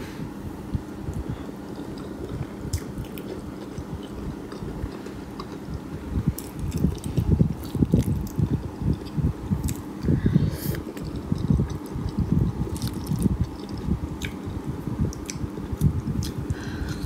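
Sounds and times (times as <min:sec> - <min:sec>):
chewing food: 0:01.7 - 0:10.1, 0:10.7 - 0:17.0.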